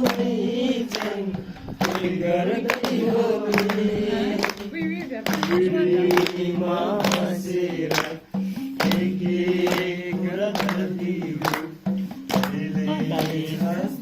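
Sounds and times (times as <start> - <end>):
group singing: 0.0 - 14.0
sharp rhythmic strokes: 0.0 - 14.0.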